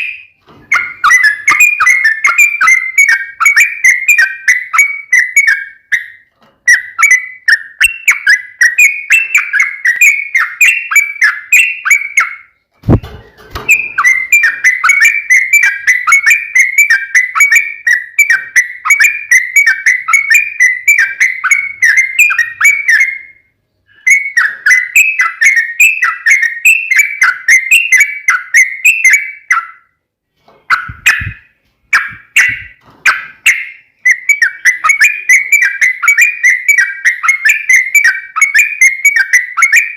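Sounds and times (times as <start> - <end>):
bulbul whistled chattering song: 0.0 - 30.0, 30.7 - 39.9.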